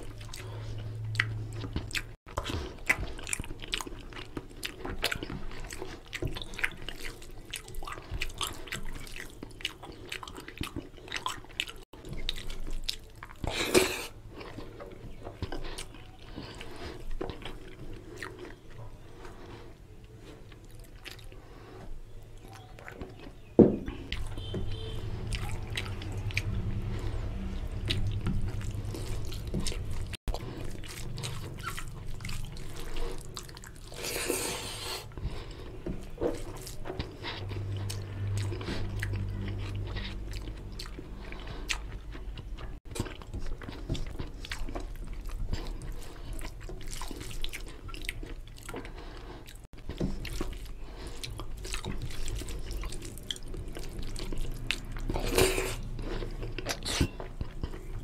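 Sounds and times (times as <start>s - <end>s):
chewing and wet lip smacks: 0.0s - 19.6s, 20.5s - 21.5s, 24.0s - 34.5s, 35.1s - 58.0s.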